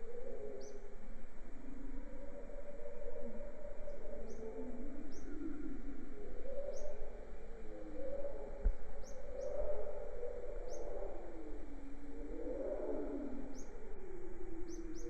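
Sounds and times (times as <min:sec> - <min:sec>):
low wavering bird calls: 0:00.0 - 0:15.0.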